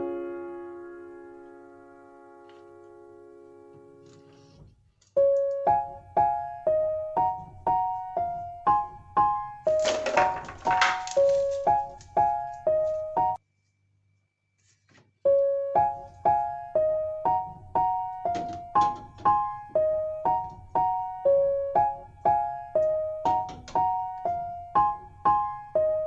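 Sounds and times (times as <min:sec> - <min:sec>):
gentle keyboard melody: 0:00.0 - 0:04.4, 0:05.2 - 0:13.4, 0:15.3 - 0:26.0.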